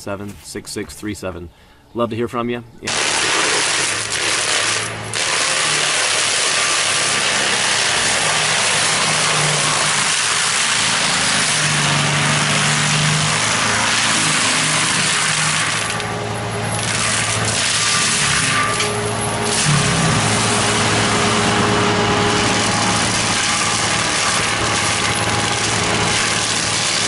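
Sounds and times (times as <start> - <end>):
excavator engine running hard: 2.9 - 27.0.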